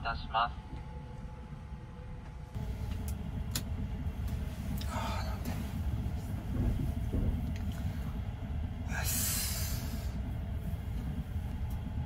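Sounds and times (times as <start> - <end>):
train rumble on rails: 1.4 - 12.0.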